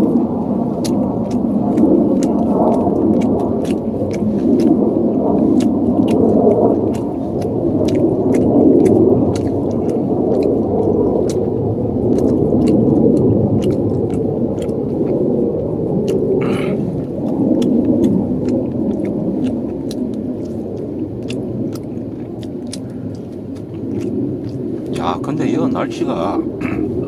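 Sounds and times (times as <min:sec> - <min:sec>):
strong wind gusting: 0:00.0 - 0:27.0.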